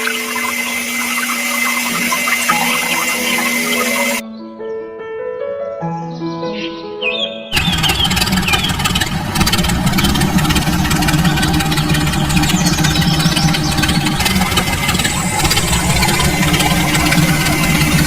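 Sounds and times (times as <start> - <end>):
small motor humming: 0.0 - 4.2, 7.6 - 18.0.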